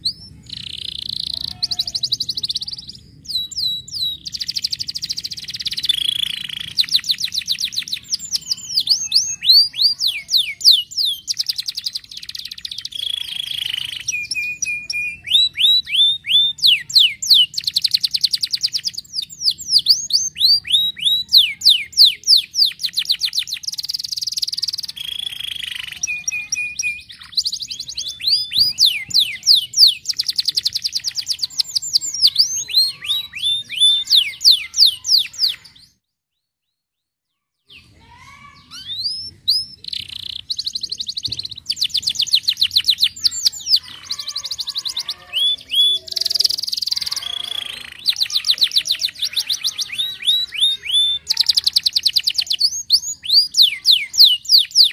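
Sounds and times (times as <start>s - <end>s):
canary singing trills: 0.0s - 36.5s, 37.3s - 54.9s.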